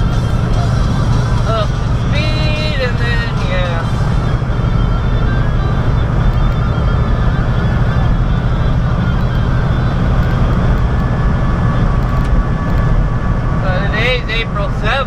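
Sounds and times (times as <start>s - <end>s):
diesel engine droning: 0.0s - 15.0s
tyre and road noise: 0.0s - 15.0s.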